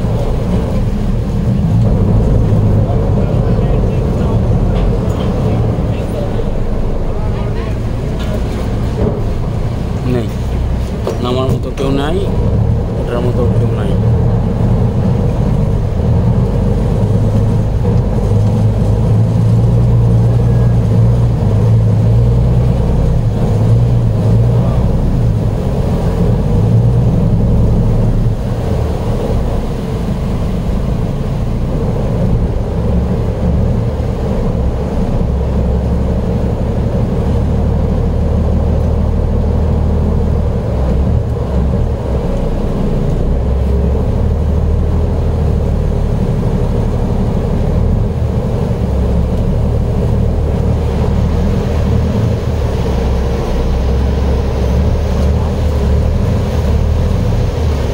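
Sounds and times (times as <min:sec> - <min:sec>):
boat engine droning: 0:00.0 - 0:57.9
water noise: 0:00.0 - 0:57.9.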